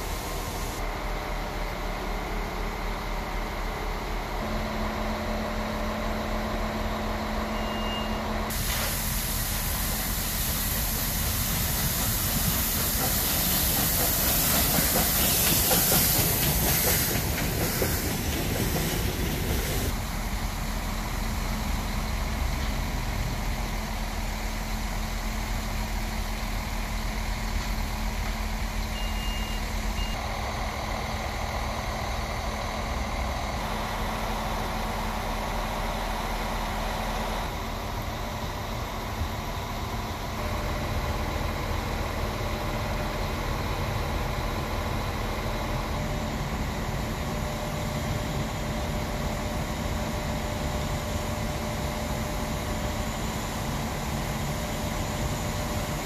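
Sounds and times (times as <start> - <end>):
steam locomotive venting steam: 0.0 - 7.8, 8.5 - 56.0.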